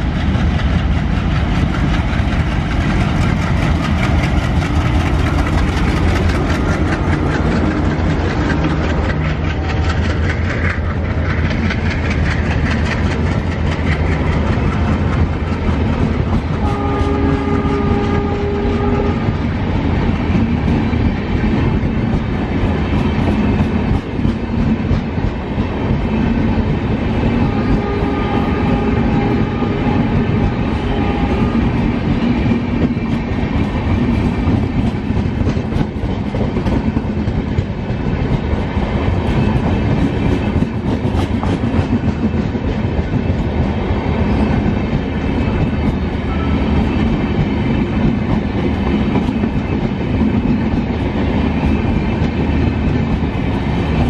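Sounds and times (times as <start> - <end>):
train rumbling past: 0.0 - 54.0
wheels clattering on rails: 0.0 - 54.0.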